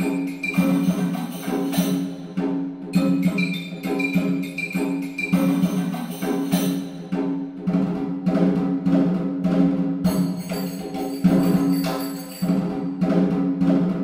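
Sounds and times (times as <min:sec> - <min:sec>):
background music with percussion: 0:00.0 - 0:14.0.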